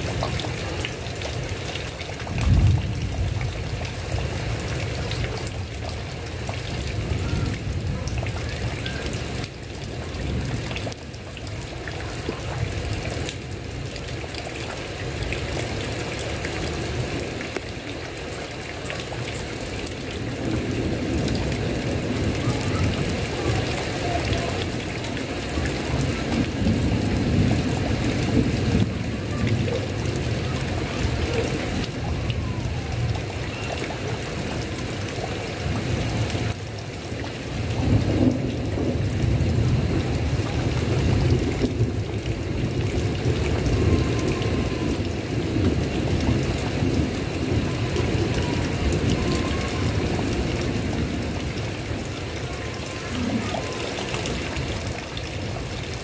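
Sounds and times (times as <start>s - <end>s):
heavy rain on a tile roof: 0.0s - 56.0s.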